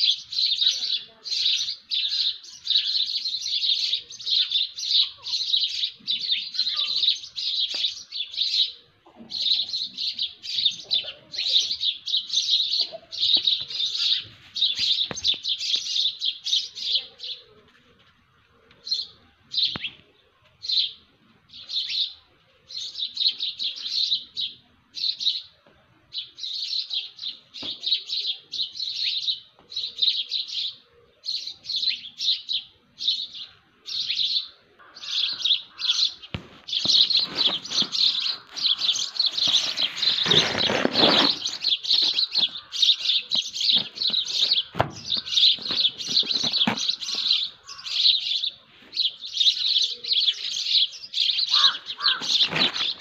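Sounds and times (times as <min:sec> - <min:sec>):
small birds chirping: 0:00.0 - 0:17.6, 0:18.7 - 0:53.0.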